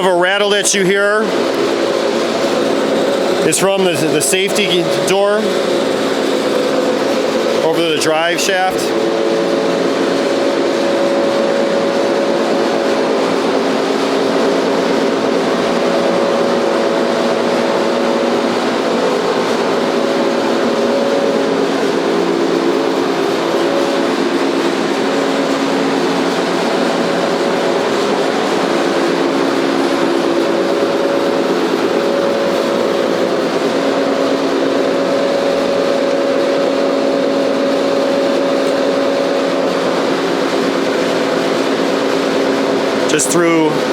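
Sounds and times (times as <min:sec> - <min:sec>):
grinder motor humming: 0:00.0 - 0:43.9.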